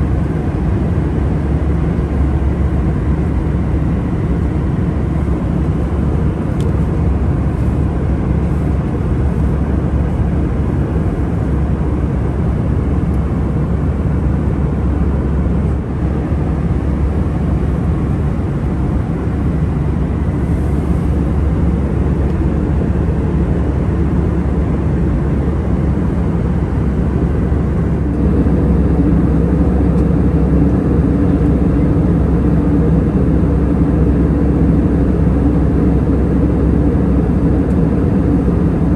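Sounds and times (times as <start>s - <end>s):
aircraft cabin engine drone: 0.0s - 38.9s.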